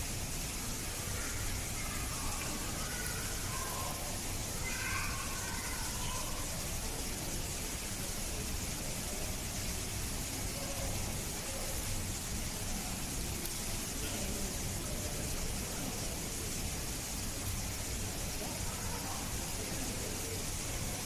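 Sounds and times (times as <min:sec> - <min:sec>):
faint distant voices: 0:00.0 - 0:21.0
steady background hiss: 0:00.0 - 0:21.0.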